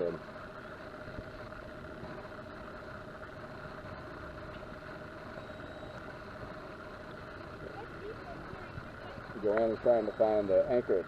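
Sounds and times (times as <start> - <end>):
outboard boat motor idling: 0.0 - 11.0.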